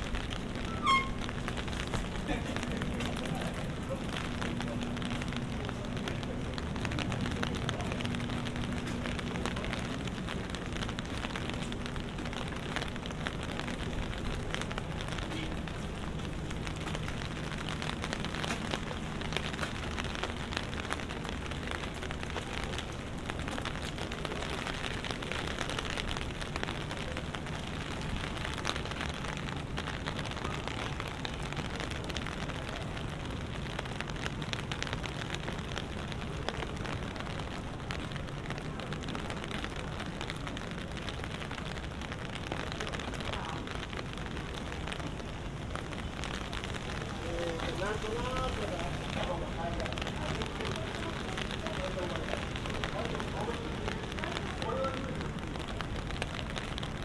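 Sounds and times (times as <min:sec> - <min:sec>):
rain ticking on an umbrella: 0:00.0 - 0:57.0.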